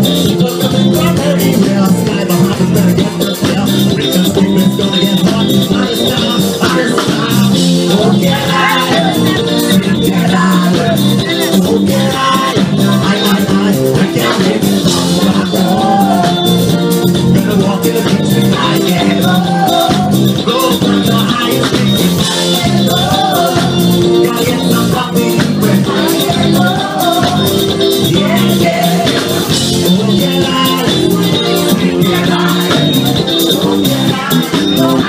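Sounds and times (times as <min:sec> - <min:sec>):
live band playing: 0:00.0 - 0:35.0
man singing into microphone: 0:00.0 - 0:35.0.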